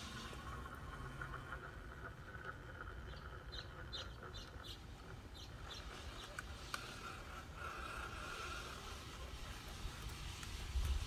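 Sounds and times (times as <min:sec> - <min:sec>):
electric motor whining faintly: 0:00.0 - 0:11.0.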